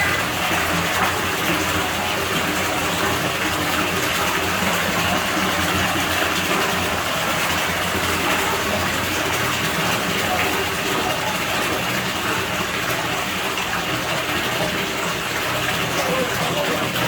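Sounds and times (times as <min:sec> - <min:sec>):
water gushing into pool: 0:00.0 - 0:17.0.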